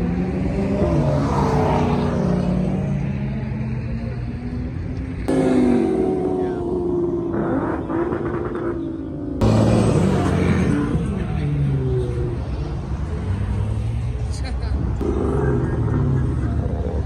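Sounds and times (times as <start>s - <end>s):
car engines revving past: 0.0s - 17.0s.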